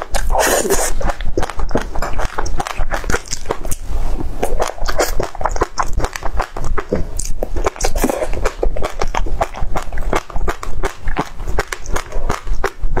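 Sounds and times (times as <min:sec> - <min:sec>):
chewing with crunching seeds: 0:00.0 - 0:13.0.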